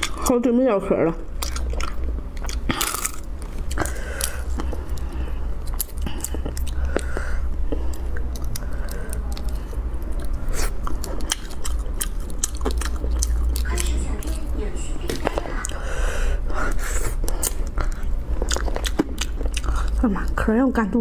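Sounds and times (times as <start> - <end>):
person chewing crunchy shellfish: 0.0 - 0.3, 1.2 - 20.4.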